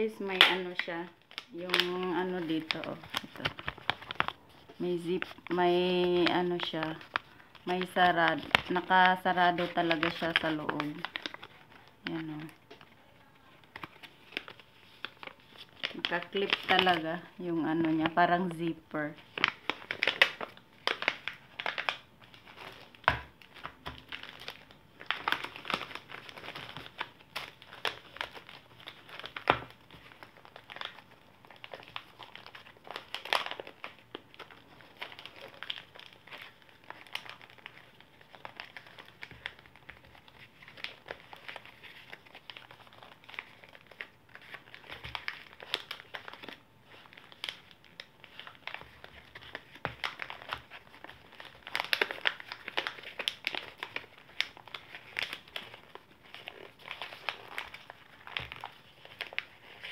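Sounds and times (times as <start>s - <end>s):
plastic packaging crinkling: 0.0s - 59.9s.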